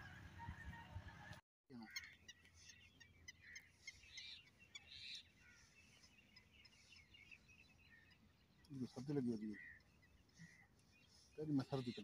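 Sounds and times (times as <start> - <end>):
faint birds chirping: 1.7 - 12.0.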